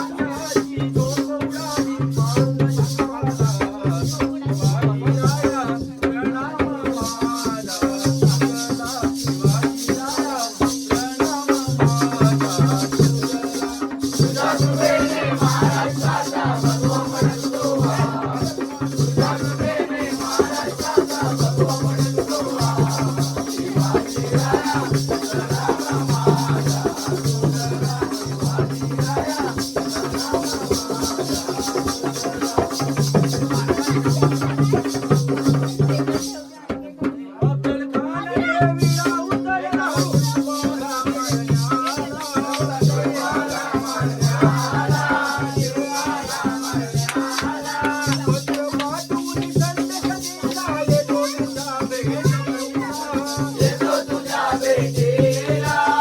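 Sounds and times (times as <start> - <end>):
rattling shaker beat: 0.0 - 56.0
voices singing or calling: 0.0 - 56.0.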